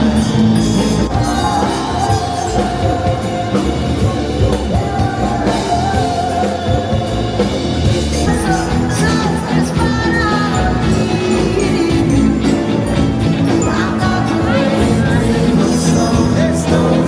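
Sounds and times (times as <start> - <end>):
pop-rock song with drums: 0.0 - 17.0.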